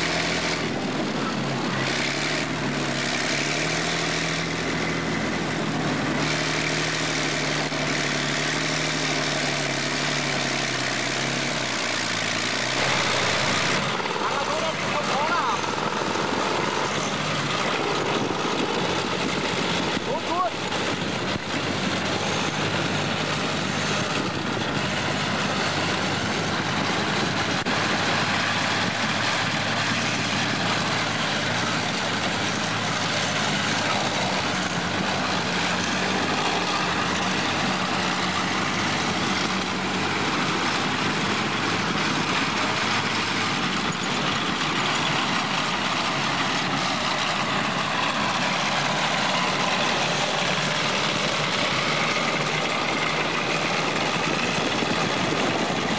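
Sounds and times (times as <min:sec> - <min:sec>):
diesel engine under load: 0:00.0 - 0:55.9
tracks rattling: 0:00.0 - 0:55.9.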